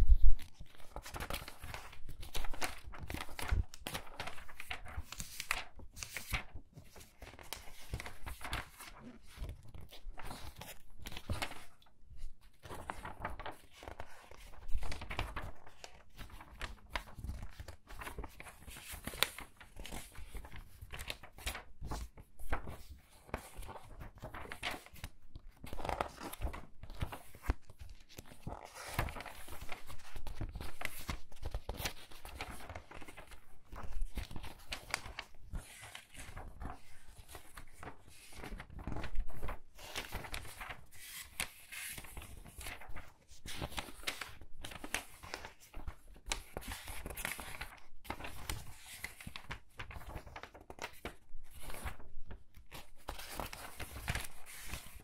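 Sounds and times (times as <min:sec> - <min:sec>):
book pages turning: 0:00.0 - 0:55.0.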